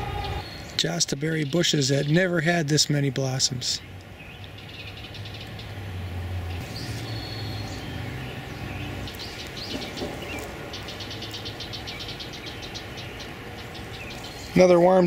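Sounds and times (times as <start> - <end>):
low engine rumble: 0.0 - 15.0
songbirds chirping: 0.0 - 15.0.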